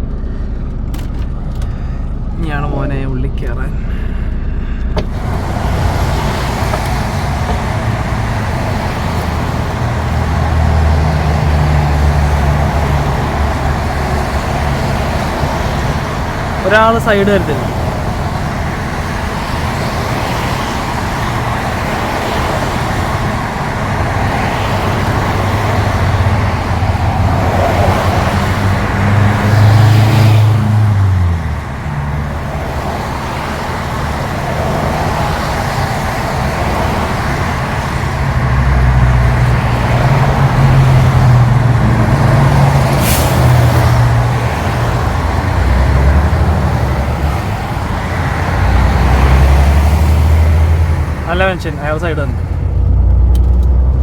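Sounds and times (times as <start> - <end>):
road noise: 0.0 - 54.0
truck diesel engine running: 0.0 - 54.0.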